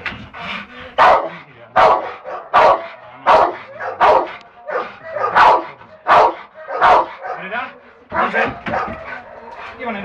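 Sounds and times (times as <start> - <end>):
dog barking: 1.0 - 7.6, 8.2 - 9.6.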